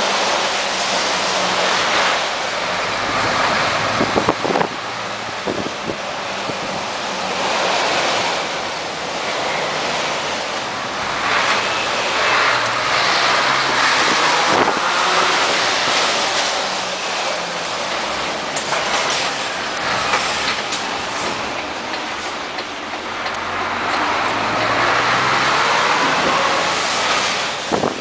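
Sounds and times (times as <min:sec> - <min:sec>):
diesel engine running low: 0:00.0 - 0:28.0
road and wind noise: 0:00.0 - 0:28.0.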